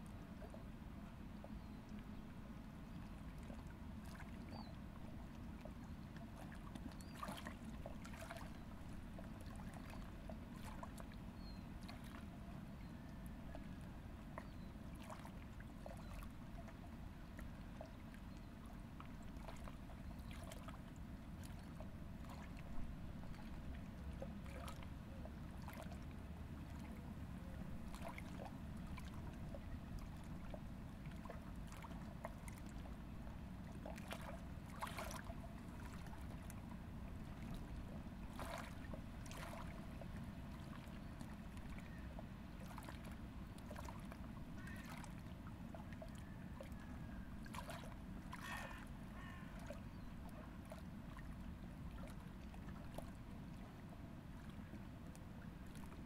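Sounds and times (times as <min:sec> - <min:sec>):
river water lapping: 0:00.0 - 0:56.0
small water splashes: 0:03.2 - 0:12.4, 0:13.0 - 0:56.0.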